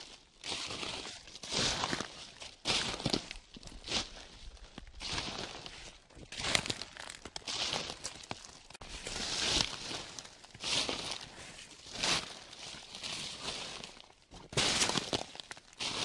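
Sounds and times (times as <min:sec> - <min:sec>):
footsteps crunching dry leaves: 0:00.0 - 0:16.0.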